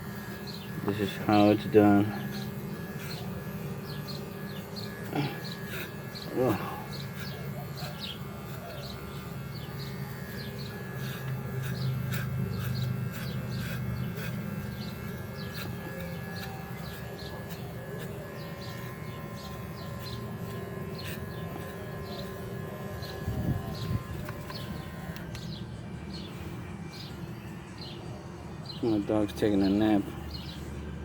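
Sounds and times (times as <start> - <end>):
birds chirping: 0.0 - 31.0
pet hair clippers humming: 0.0 - 31.0.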